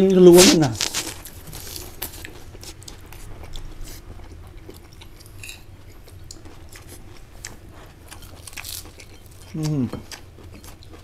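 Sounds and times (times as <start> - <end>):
person chewing food: 0.8 - 11.0.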